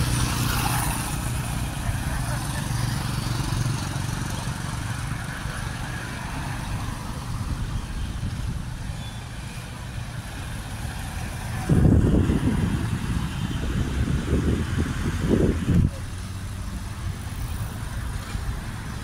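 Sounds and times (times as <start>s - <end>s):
vehicle engines low rumble: 0.0s - 19.0s.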